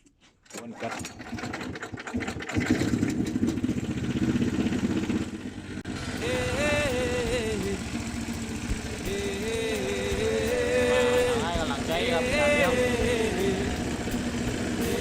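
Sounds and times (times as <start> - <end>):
boat engine revving: 0.7 - 15.0.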